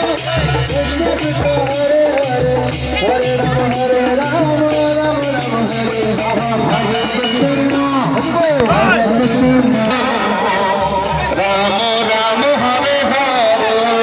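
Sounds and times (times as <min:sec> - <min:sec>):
group singing a devotional chant: 0:00.0 - 0:14.0
hand cymbals jingling: 0:00.0 - 0:14.0.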